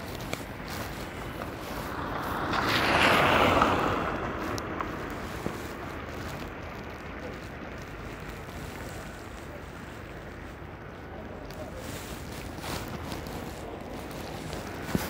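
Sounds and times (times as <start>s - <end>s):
rain: 0.0s - 15.0s
street noise: 0.0s - 15.0s
tyre hiss on wet street: 0.2s - 15.0s.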